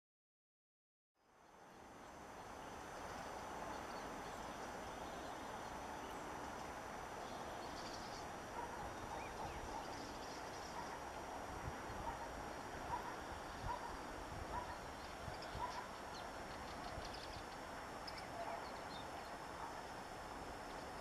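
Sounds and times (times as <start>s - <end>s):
outdoor background noise: 1.2s - 21.0s.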